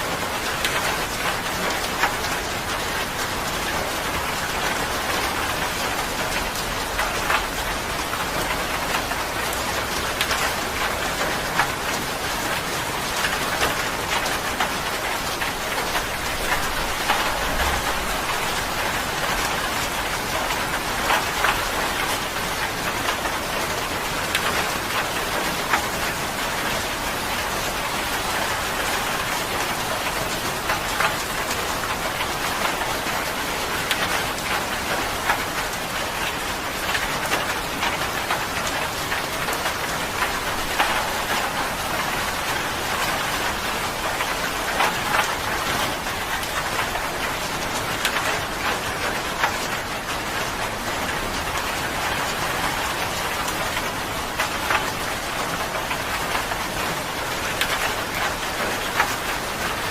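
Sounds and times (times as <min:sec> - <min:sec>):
steady rain hiss: 0:00.0 - 0:59.9
raindrops tapping a surface: 0:00.4 - 0:59.9.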